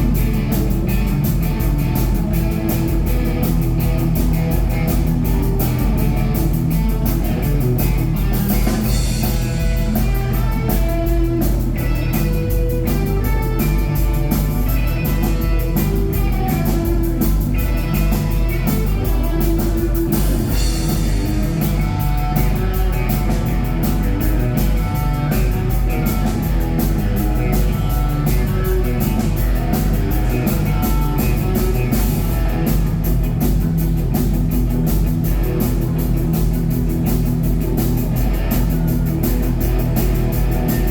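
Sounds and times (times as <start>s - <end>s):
driving drum kit: 0.0s - 40.9s
electric guitar: 0.0s - 40.9s.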